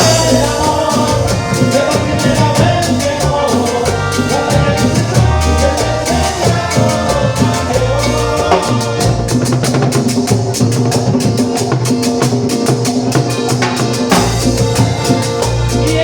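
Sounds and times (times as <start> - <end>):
bass line: 0.0 - 16.0
drums and percussion: 0.0 - 16.0
latin dance band music: 0.0 - 16.0.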